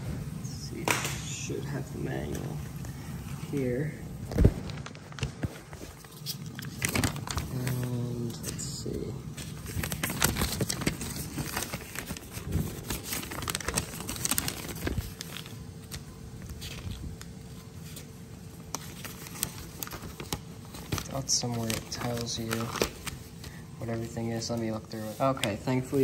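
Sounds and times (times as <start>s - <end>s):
faint steady hum: 0.0s - 26.0s
paper booklet pages rustling: 0.8s - 26.0s.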